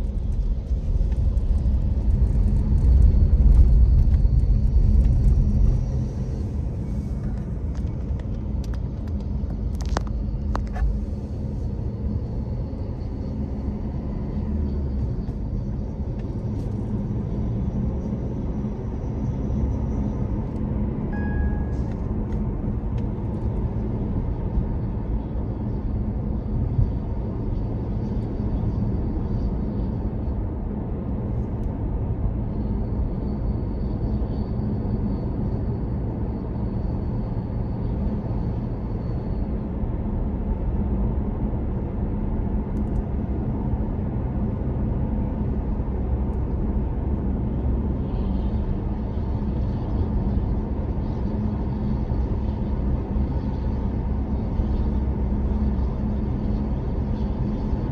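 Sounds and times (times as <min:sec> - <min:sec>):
faint high whine: 0:00.0 - 0:43.8, 0:44.4 - 0:57.9
tyre and engine rumble in car: 0:00.0 - 0:57.9.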